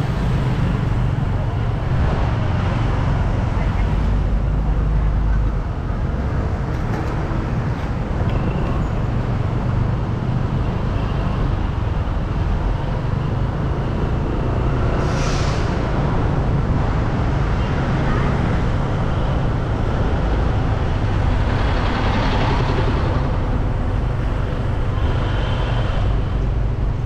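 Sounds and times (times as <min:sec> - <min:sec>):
engine and tyre rumble: 0:00.0 - 0:27.0.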